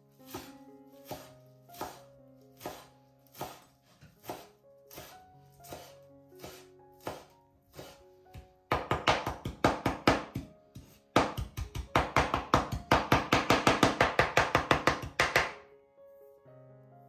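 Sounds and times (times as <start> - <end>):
knife chopping herbs on board: 0.3 - 15.6.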